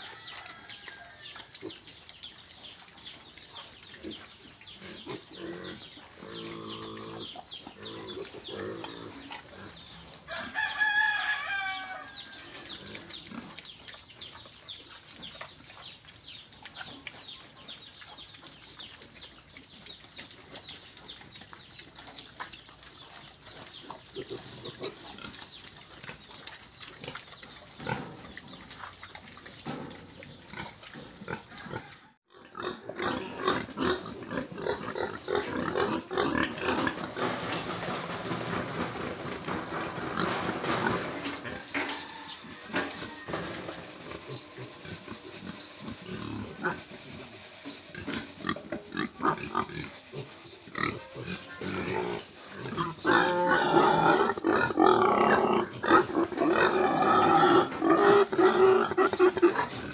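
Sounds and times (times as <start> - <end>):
pigs grunting and squealing: 3.6 - 10.6, 11.7 - 14.2, 19.9 - 42.0, 42.7 - 59.9.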